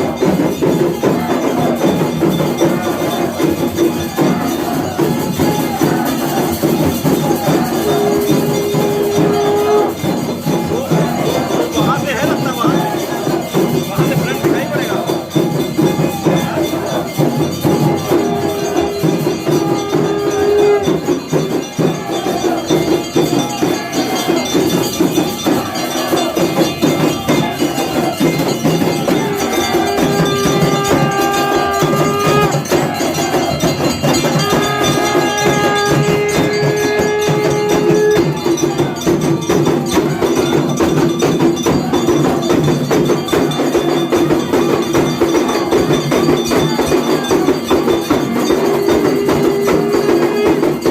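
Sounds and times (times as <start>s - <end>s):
rapid percussion: 0.0s - 50.9s
temple bells ringing: 0.0s - 50.9s.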